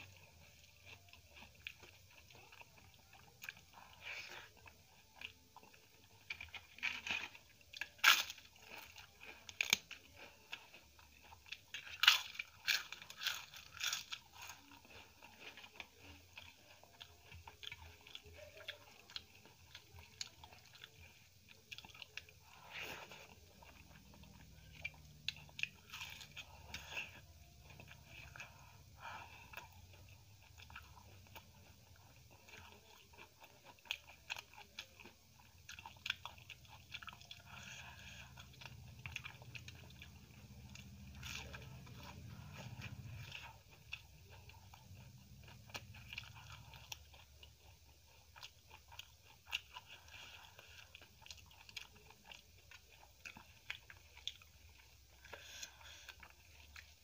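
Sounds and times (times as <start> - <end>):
person chewing crisp food: 0.0 - 57.0.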